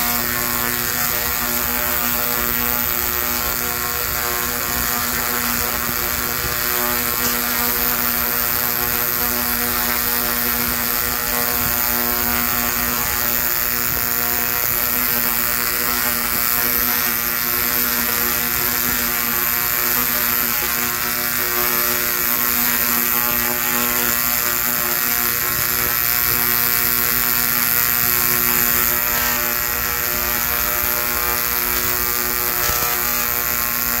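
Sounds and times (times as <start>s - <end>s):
crackling electric arcs: 0.0s - 34.0s
tesla coil buzzing: 0.0s - 34.0s.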